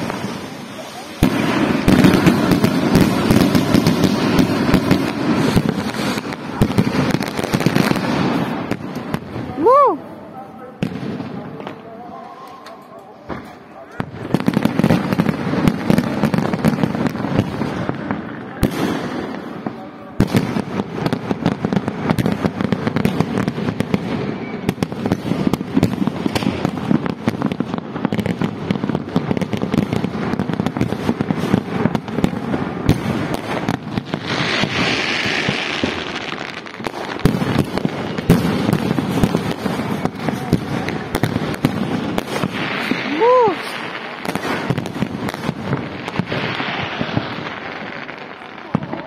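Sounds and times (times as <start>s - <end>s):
fireworks hissing: 0.0s - 10.0s, 14.0s - 49.0s
fireworks bangs and crackling: 0.0s - 49.0s.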